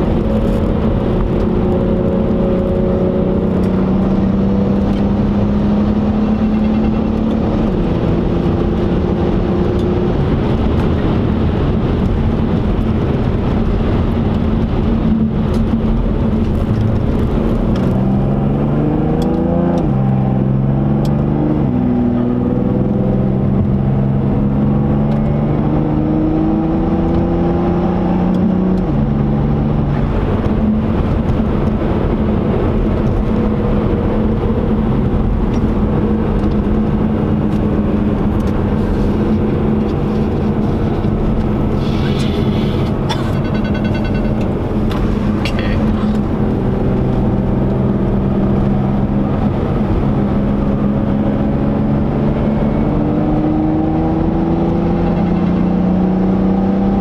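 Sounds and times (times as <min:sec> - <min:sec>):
car engine accelerating from cabin: 0:00.0 - 0:57.0.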